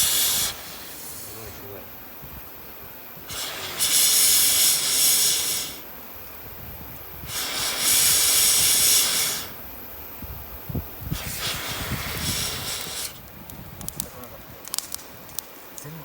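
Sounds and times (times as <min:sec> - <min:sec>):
loud hissing air: 0:00.0 - 0:15.7.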